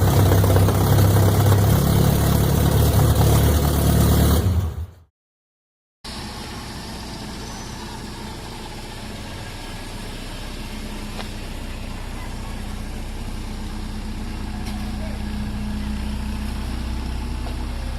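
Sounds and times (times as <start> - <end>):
car engine idling: 0.0 - 4.4, 6.1 - 17.9.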